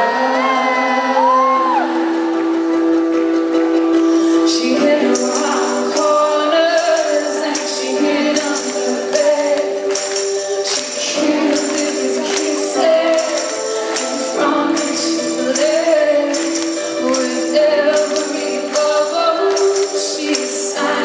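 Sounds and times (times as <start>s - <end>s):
woman singing: 0.0s - 1.9s, 4.2s - 21.0s
live band music: 1.2s - 21.0s.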